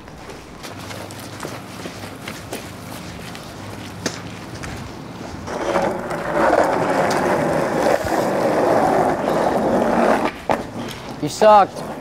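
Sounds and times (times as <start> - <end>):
skateboard wheels rolling on pavement: 0.0 - 12.0.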